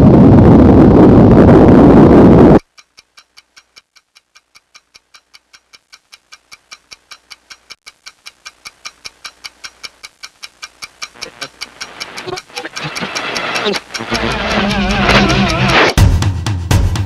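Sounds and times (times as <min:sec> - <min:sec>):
clock ticking quickly: 0:02.6 - 0:16.8.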